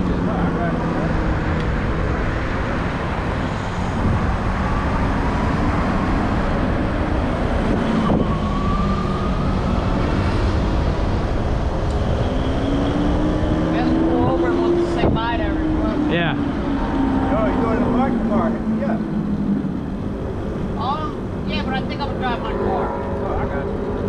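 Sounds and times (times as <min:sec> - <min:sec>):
wind over microphone: 0:00.0 - 0:24.0.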